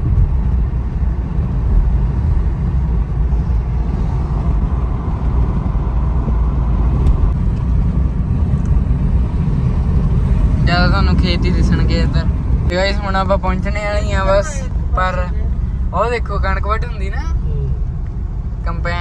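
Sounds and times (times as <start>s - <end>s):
road and engine rumble inside car: 0.0s - 19.0s.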